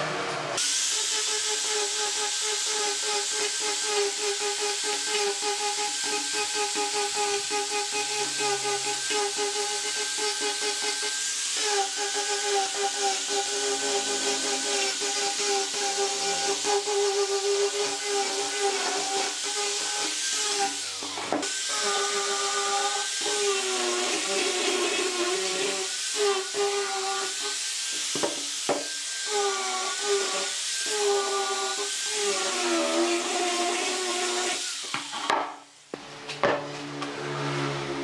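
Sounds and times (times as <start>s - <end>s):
angle grinder sanding wood: 0.6s - 35.3s.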